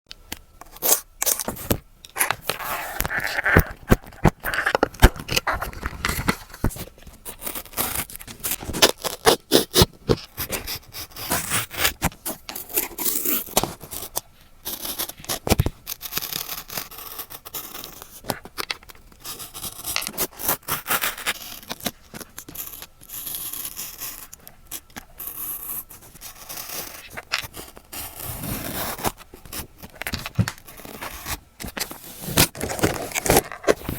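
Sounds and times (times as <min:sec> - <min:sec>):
paper scraping and rustling: 0:00.9 - 0:23.7, 0:24.8 - 0:33.9.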